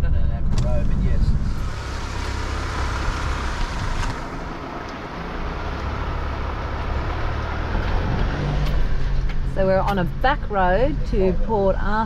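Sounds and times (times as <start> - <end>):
vehicle engine hum: 0.0 - 12.0
tyre and road noise: 0.4 - 12.0.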